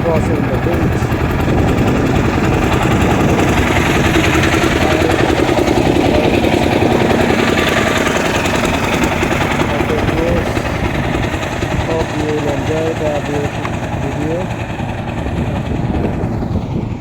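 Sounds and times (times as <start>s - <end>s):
motor boat engine chugging: 0.0s - 17.0s.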